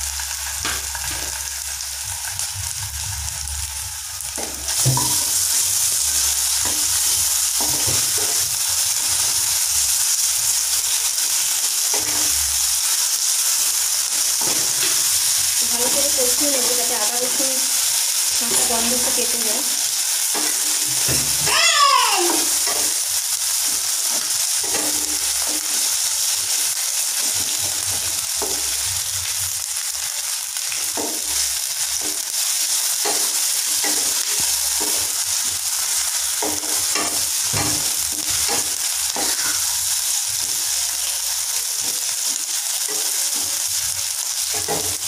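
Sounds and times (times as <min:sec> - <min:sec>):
onions sizzling in hot oil: 0:00.0 - 0:45.0.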